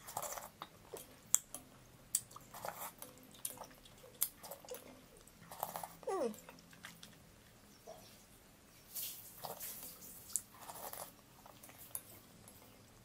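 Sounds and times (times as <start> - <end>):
wet slurping and chewing: 0.0 - 7.6, 8.9 - 13.0.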